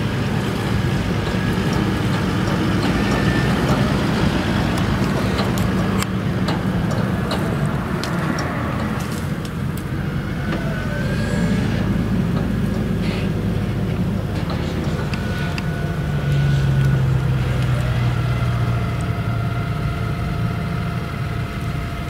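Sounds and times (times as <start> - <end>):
forage harvester engine drone: 0.0 - 22.0.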